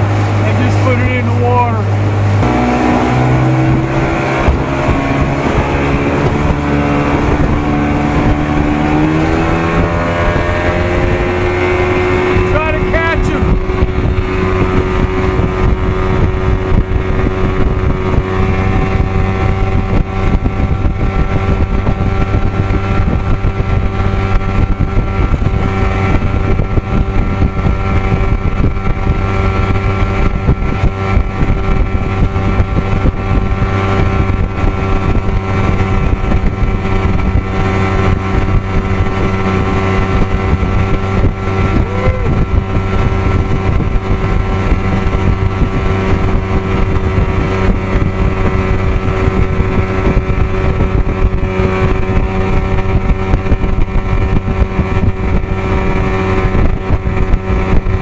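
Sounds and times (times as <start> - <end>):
outboard motor running: 0.0 - 58.0
wind noise on microphone: 0.0 - 58.0.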